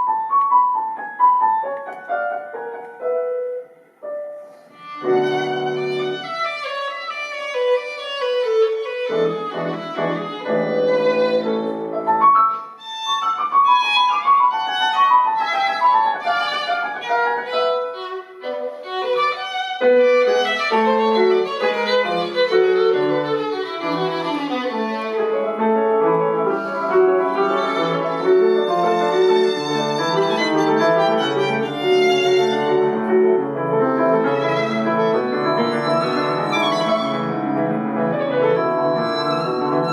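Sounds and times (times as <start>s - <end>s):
piano accompaniment: 0.0s - 39.9s
violin: 4.5s - 39.9s.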